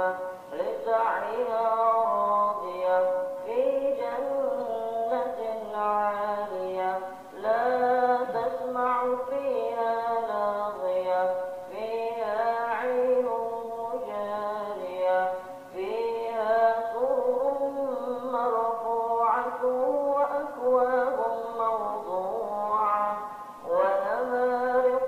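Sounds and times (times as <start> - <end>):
person chanting a slow melody: 0.0 - 25.0.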